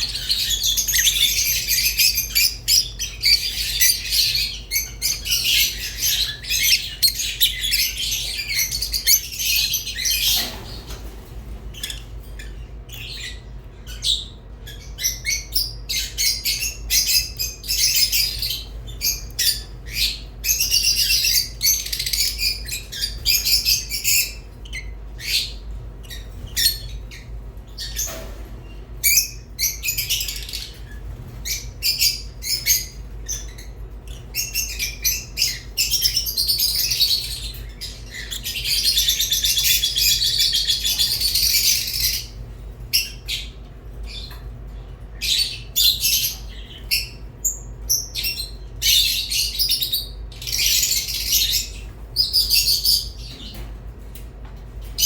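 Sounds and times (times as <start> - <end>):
lovebirds chirping and chattering: 0.0 - 55.0.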